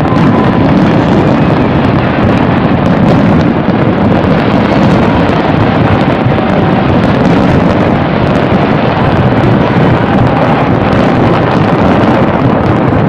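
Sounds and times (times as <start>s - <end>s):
fireworks barrage roar: 0.0s - 13.0s.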